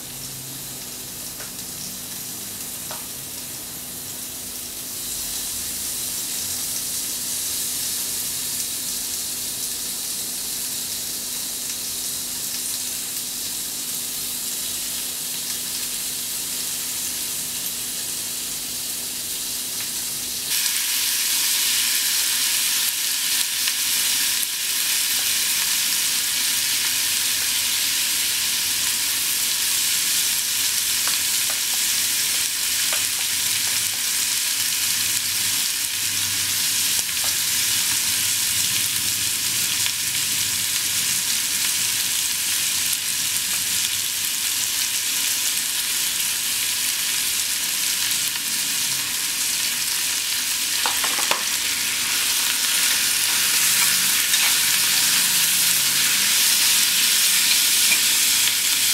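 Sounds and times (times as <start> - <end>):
beef sizzling in a frying pan: 0.0 - 58.9.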